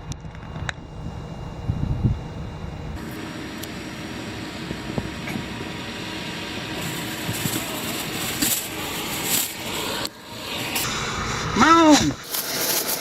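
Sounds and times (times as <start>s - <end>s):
vehicle noise inside truck cab: 0.0s - 13.0s.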